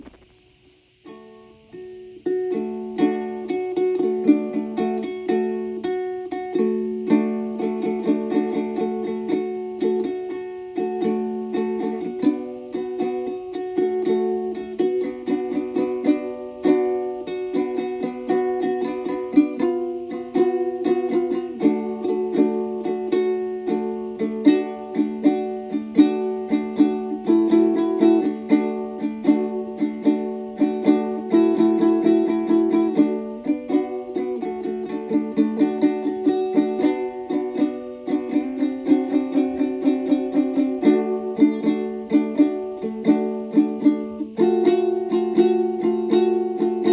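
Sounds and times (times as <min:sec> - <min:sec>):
fingerpicked ukulele-like strings: 0:00.0 - 0:46.9.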